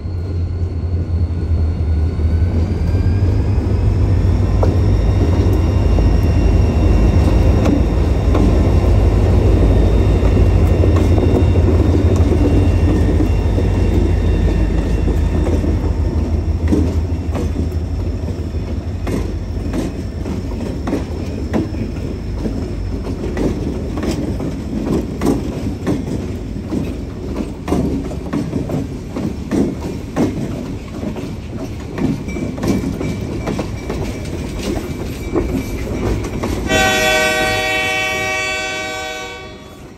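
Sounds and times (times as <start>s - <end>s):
diesel locomotive engine drone: 0.0s - 39.9s
train wheels clicking over rail joints: 2.4s - 38.5s.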